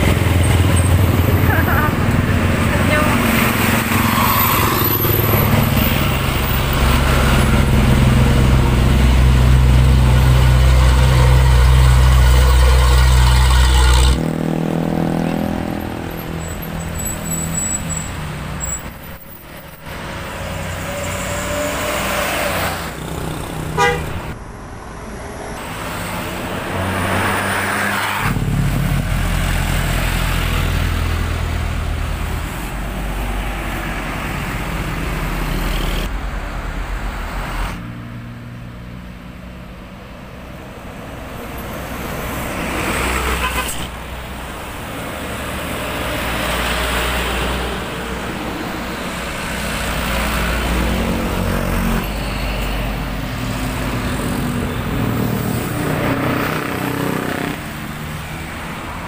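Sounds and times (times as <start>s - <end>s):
background traffic: 0.0s - 59.0s
diesel buses passing: 0.0s - 59.0s
tyre and road noise: 0.0s - 59.0s.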